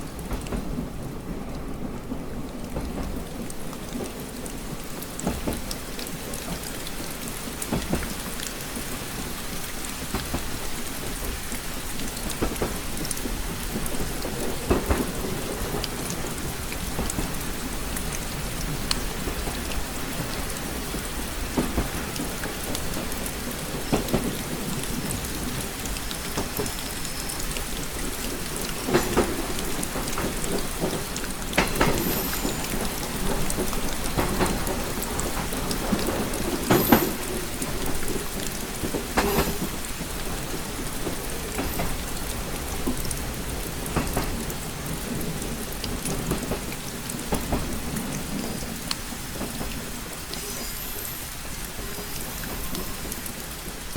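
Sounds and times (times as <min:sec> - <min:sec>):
rain pattering on a window: 0:00.0 - 0:53.9
raindrops tapping sharply: 0:02.7 - 0:53.9.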